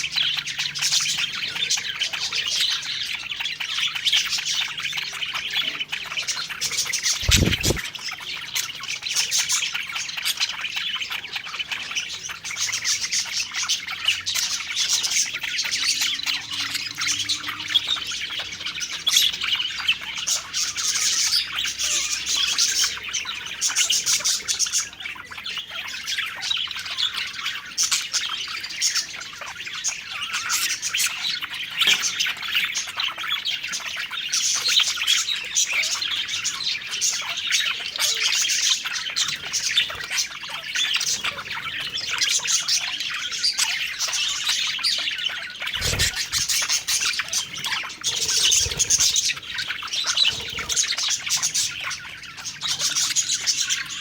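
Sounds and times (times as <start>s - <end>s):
bird squawks: 0.0s - 54.0s
budgerigars chirping and warbling: 0.0s - 54.0s.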